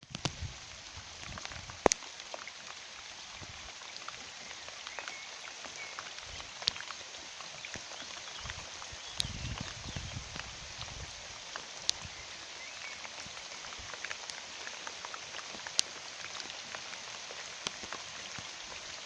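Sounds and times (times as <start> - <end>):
rain falling on pond: 0.0 - 19.0.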